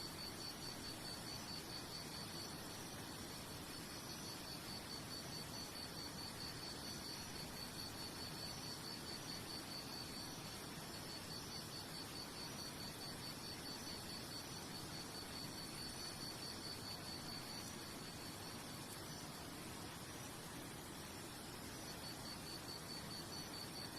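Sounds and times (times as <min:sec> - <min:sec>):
background hiss: 0:00.0 - 0:23.9
cricket chirping: 0:00.0 - 0:23.9.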